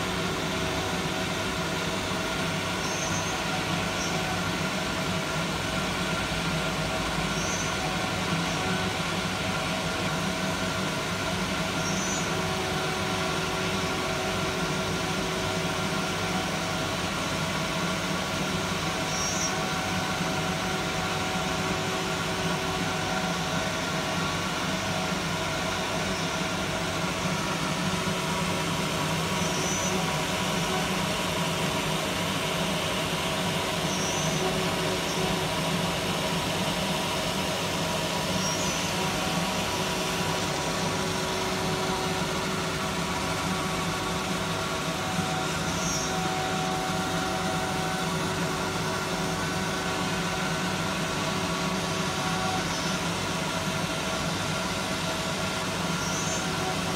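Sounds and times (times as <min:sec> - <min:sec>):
machine humming with constant tones: 0:00.0 - 0:56.9.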